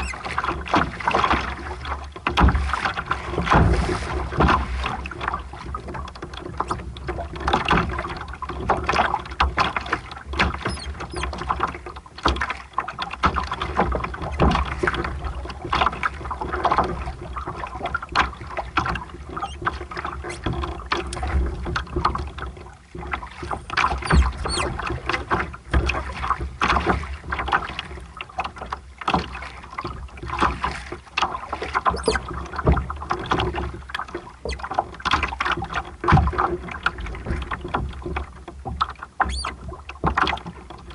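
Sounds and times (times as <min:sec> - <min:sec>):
water splashing against hull: 0:00.0 - 0:40.9.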